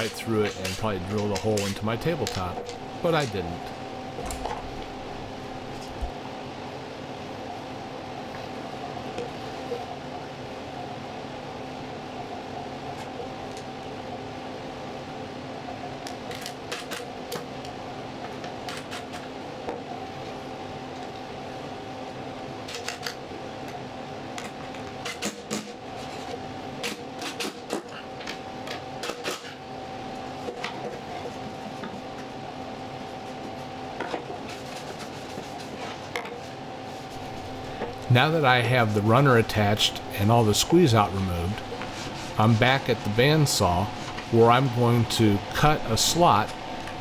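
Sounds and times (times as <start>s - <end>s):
steady background hum: 0.0s - 47.0s.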